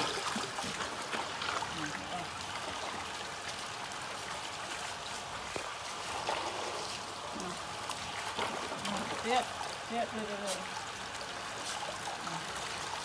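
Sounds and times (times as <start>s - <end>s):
hose water running: 0.0s - 13.0s.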